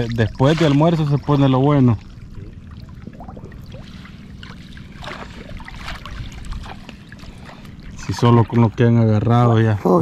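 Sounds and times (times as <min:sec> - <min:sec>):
steady low rumble: 0:00.0 - 0:10.0
water splashing and trickling: 0:00.0 - 0:10.0.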